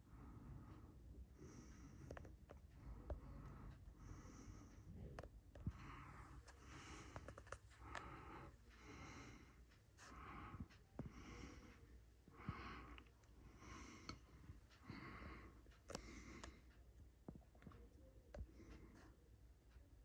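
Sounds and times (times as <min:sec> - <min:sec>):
slow breathing: 0:00.0 - 0:19.8.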